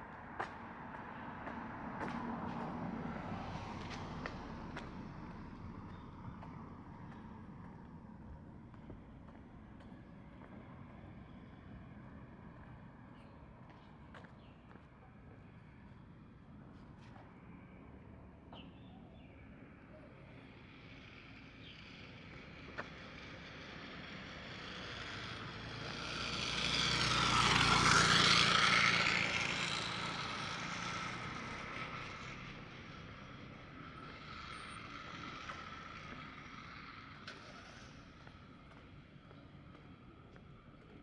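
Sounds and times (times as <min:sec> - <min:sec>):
vehicle passing by: 0:00.0 - 0:14.3, 0:15.1 - 0:41.0.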